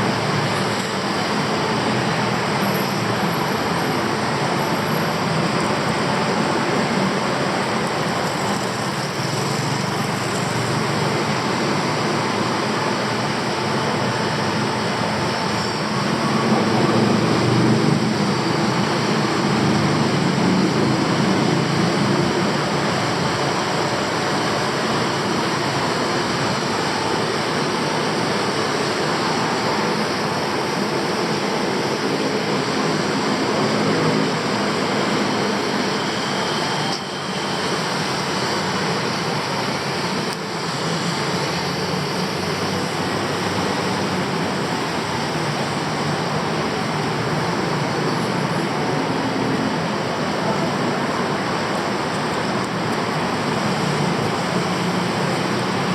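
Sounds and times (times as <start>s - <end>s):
passing traffic: 0.0s - 55.9s.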